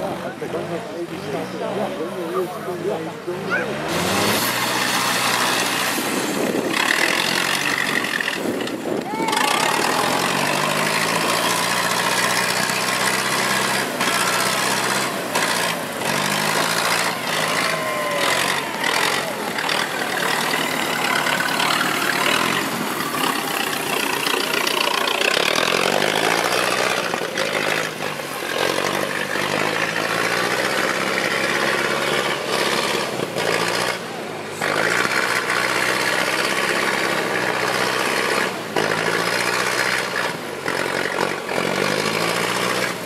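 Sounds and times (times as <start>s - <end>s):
vintage car engine running: 0.0s - 43.0s.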